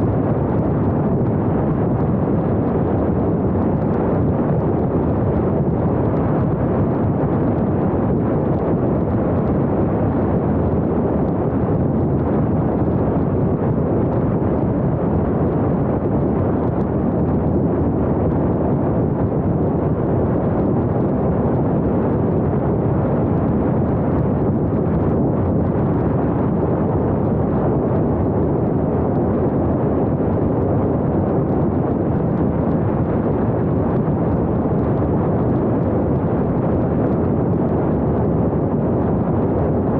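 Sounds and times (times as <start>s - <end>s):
rushing wind: 0.0s - 39.9s.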